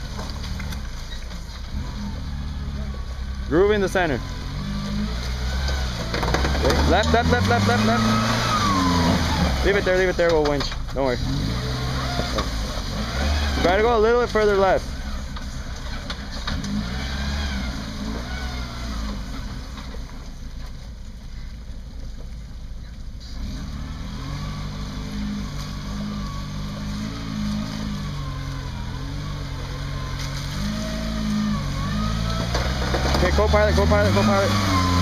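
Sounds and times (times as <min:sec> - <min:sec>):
truck engine at low revs: 0:00.0 - 0:35.0.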